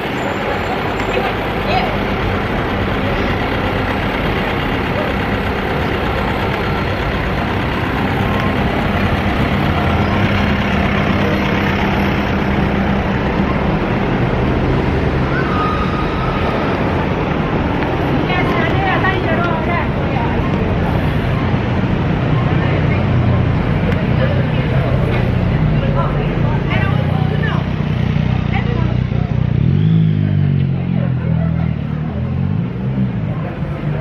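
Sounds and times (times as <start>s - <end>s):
bus engine rumble: 0.0s - 34.0s
cars passing: 0.0s - 34.0s.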